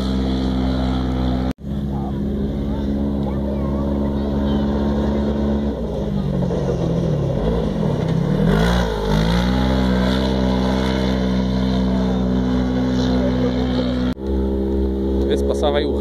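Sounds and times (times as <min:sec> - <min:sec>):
buggy engine running hard: 0:00.0 - 0:16.0.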